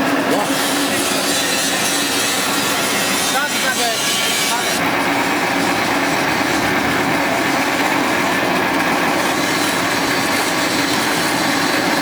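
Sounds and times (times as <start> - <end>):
pellet press machine running: 0.0 - 12.0.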